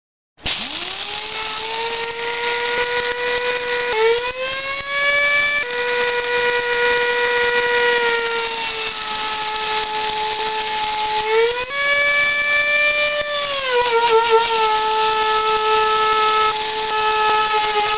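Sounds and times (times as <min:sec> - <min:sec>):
electric coffee grinder whining: 0:00.4 - 0:17.9.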